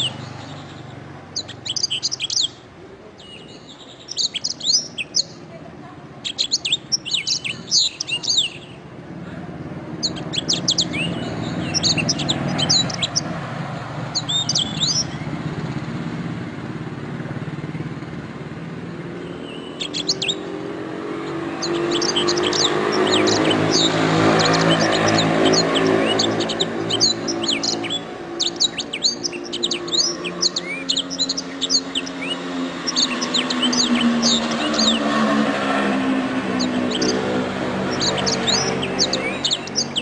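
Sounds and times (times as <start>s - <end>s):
canary singing trills: 0.0s - 8.9s, 9.7s - 15.9s, 18.9s - 40.0s.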